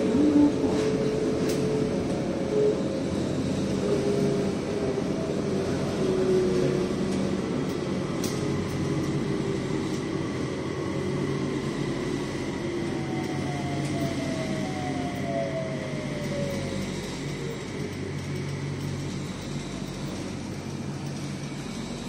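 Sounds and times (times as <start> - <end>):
rail car rumble and hum: 0.0 - 22.0.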